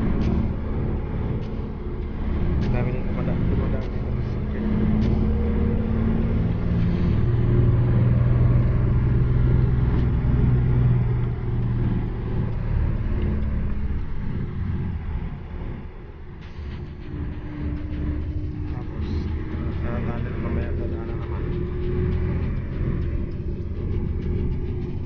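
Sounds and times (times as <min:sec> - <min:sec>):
road noise: 0:00.0 - 0:25.0
vehicle engine hum: 0:00.0 - 0:25.0.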